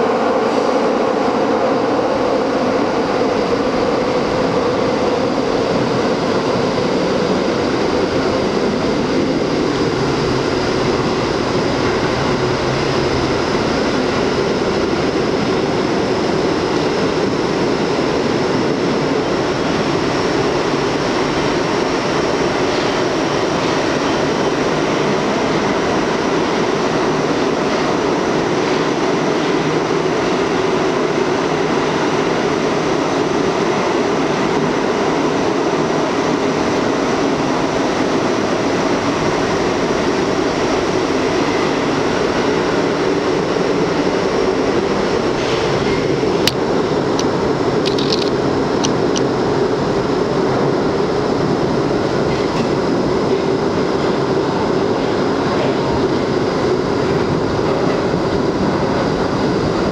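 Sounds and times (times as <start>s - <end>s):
subway car wheels rumbling: 0.0s - 59.9s.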